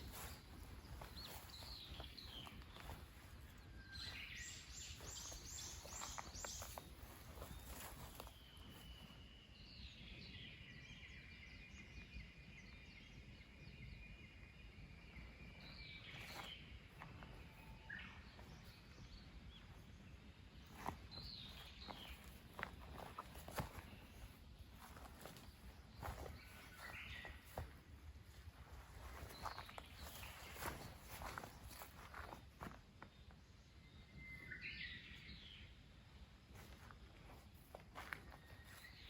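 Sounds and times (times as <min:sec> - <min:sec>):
faint birdsong: 0:00.0 - 0:39.0.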